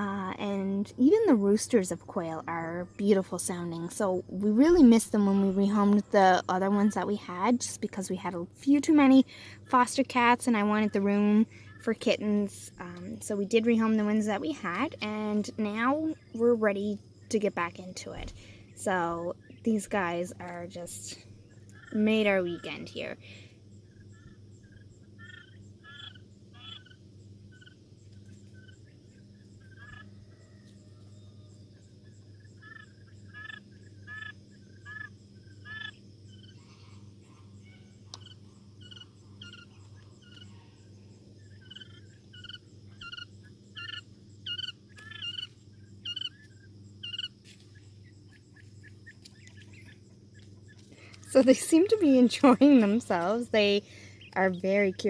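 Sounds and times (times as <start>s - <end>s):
quail chicks peeping: 0.0s - 55.0s.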